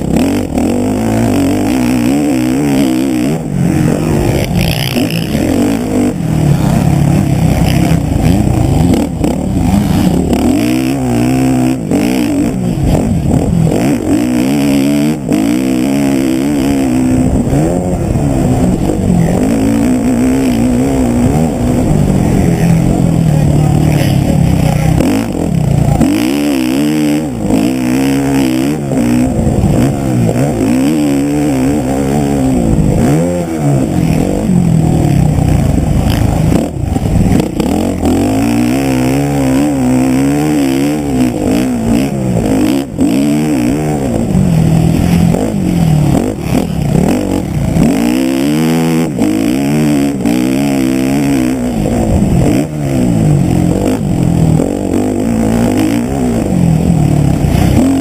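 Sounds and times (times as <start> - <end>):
wind rushing over microphone: 0.0 - 26.3, 26.9 - 50.3
motocross bike engine revving: 0.0 - 58.0.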